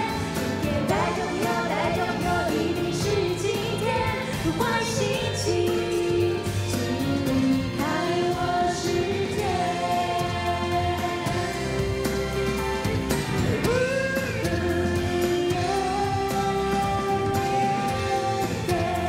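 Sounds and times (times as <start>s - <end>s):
woman singing pop song: 0.0s - 12.0s, 13.5s - 19.0s
live band playing: 0.0s - 19.0s.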